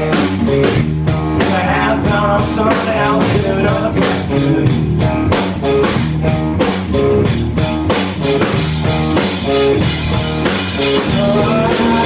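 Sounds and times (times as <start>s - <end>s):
drum kit beat: 0.0s - 12.0s
guitar chords: 0.0s - 12.0s.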